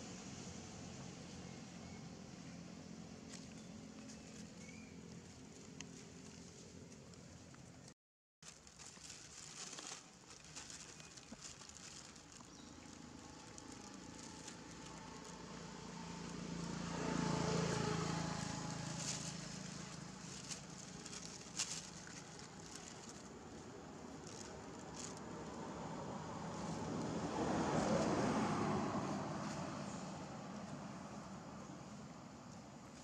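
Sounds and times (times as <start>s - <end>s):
engine passing by: 0.0s - 6.7s, 10.9s - 33.0s.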